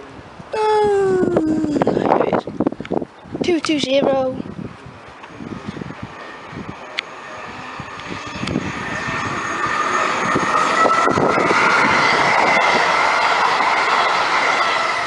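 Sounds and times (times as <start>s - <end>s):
diesel train approaching with whine: 2.6s - 15.0s.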